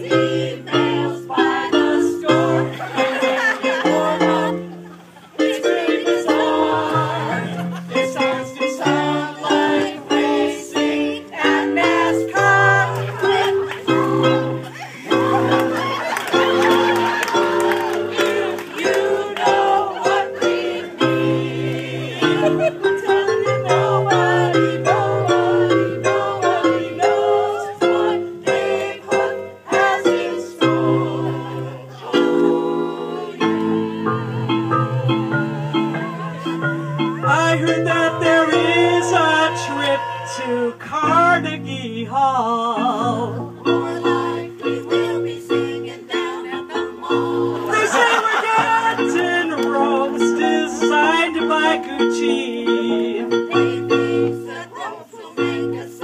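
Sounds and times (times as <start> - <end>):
small choir singing: 0.0 - 41.5, 42.7 - 56.0
digital piano chords: 0.0 - 56.0.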